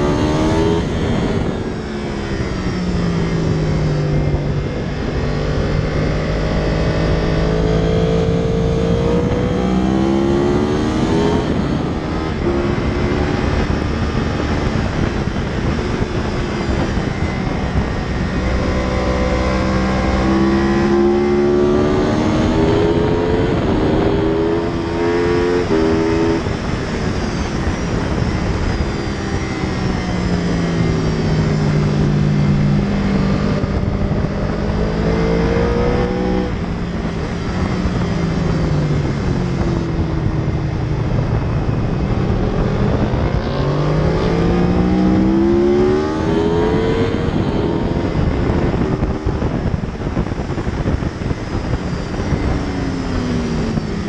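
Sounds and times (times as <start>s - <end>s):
motorcycle engine at speed: 0.0s - 54.0s
wind noise on microphone: 0.0s - 54.0s.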